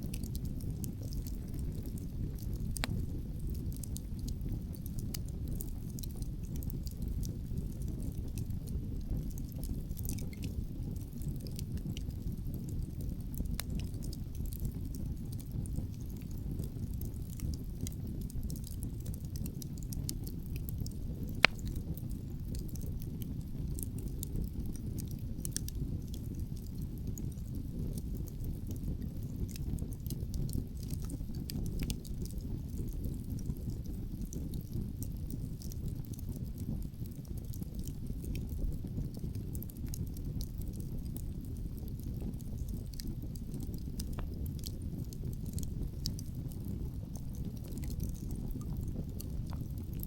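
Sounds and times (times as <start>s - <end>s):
burning logs popping: 0.0s - 50.0s
low rumble of wind: 0.0s - 50.0s
wood fire crackling: 0.0s - 50.0s.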